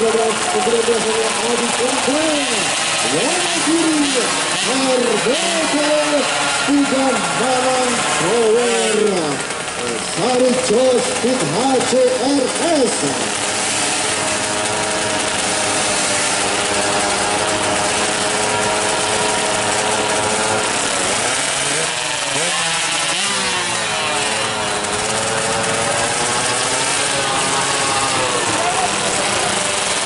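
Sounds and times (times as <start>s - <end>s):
motorbike engines revving: 0.0s - 30.0s.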